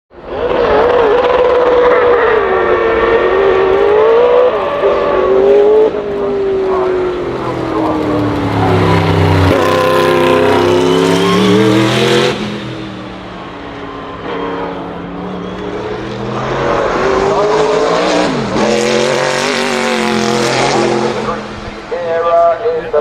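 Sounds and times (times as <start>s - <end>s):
race car engine at full throttle: 0.1s - 23.0s.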